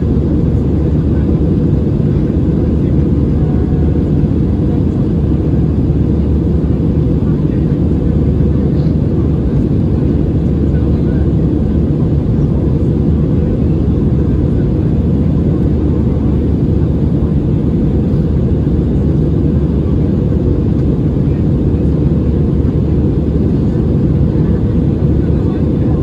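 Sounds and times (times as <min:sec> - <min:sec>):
airplane cabin engine roar: 0:00.0 - 0:26.0.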